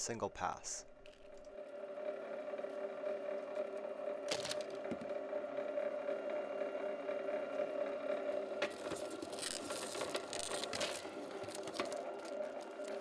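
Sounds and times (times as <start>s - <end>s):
wire stripping machine humming: 0.8s - 13.0s.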